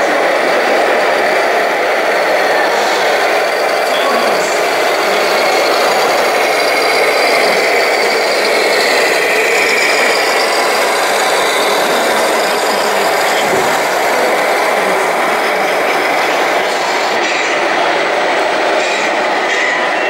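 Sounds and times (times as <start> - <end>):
toy truck engine sound: 0.0 - 20.0.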